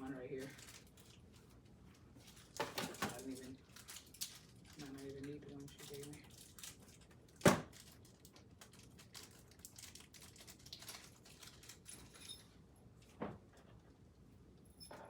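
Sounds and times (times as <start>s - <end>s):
small clicks and rustles: 0.4s - 14.0s.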